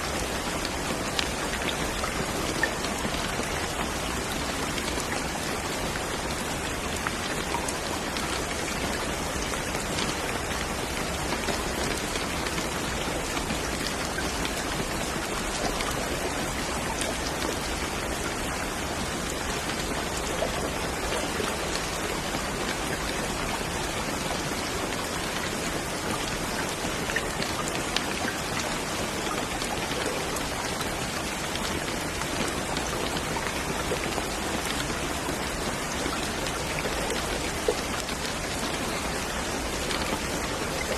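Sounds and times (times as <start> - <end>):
raindrops ticking on a surface: 0.0 - 40.9
steady rain: 0.0 - 40.9.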